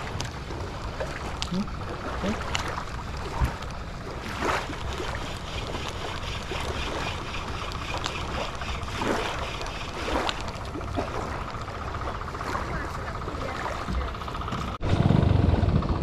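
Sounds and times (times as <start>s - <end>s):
water lapping at shore: 0.0s - 14.8s
wind buffeting microphone: 0.0s - 16.0s.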